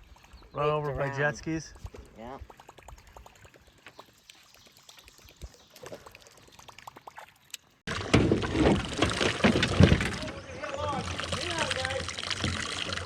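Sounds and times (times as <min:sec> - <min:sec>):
river water lapping: 0:00.0 - 0:13.0
water splashing and churning: 0:01.6 - 0:13.0.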